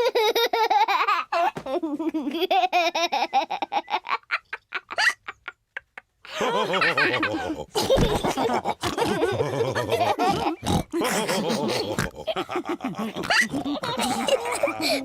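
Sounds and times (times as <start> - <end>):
cartoon characters laughing: 1.8 - 15.0.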